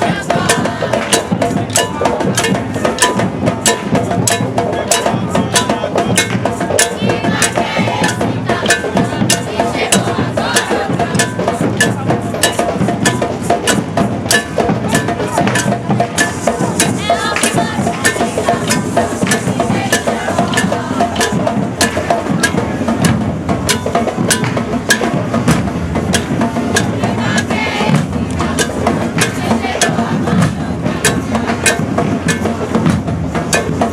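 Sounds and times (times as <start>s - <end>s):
sharp drum strikes: 0.0s - 33.9s.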